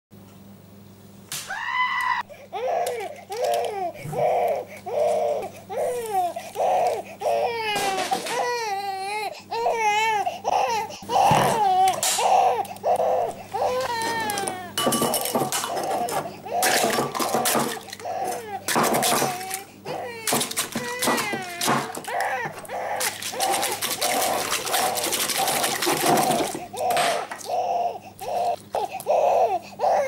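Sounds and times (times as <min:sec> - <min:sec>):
baby crying: 0:01.5 - 0:30.0.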